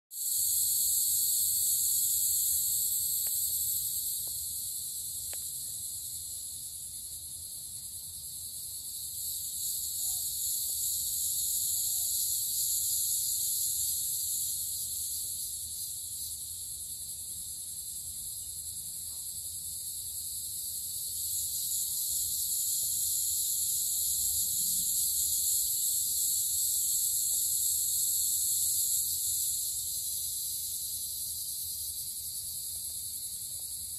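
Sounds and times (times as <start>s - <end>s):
insect chorus trilling: 0.1s - 33.9s.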